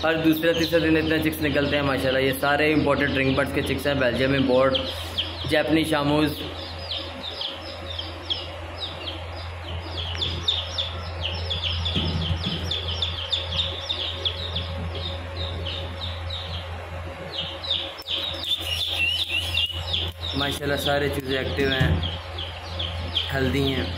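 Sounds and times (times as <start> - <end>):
chicks peeping: 0.0 - 23.9
steady low hum: 0.0 - 23.9.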